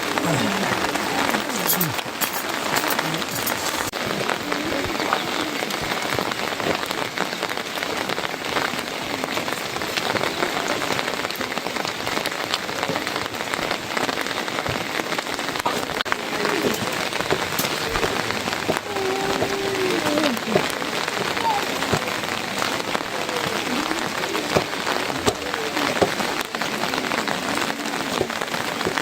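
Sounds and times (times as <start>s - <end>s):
heavy rain with ticking drops: 0.0s - 29.0s.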